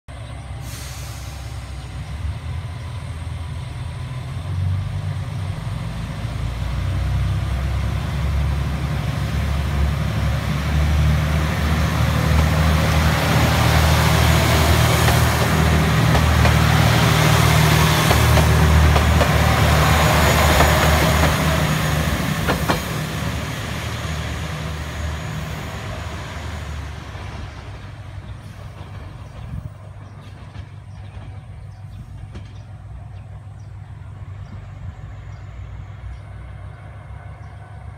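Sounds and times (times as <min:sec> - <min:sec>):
diesel train passing: 0:00.1 - 0:37.9.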